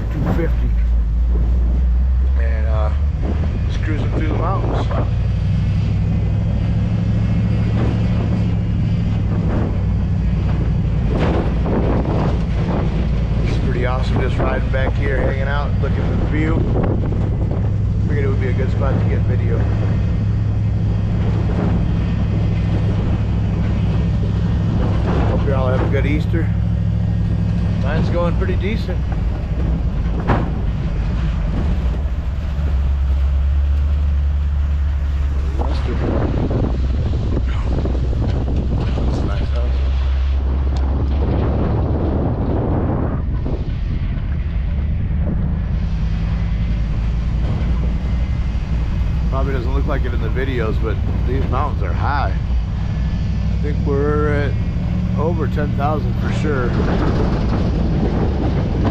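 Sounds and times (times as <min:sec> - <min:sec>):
pickup truck engine drone: 0:00.0 - 0:58.9.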